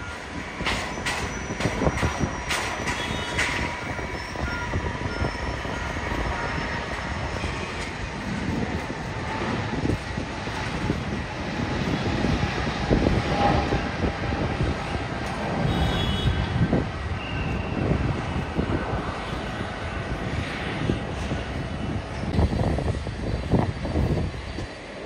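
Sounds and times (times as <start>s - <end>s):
jet engines rumbling and whining: 0.0s - 25.0s.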